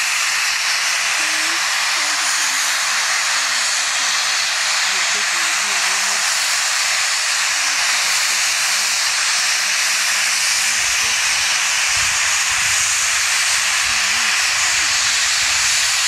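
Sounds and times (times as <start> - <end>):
loud steam hiss from locomotive: 0.0 - 16.0.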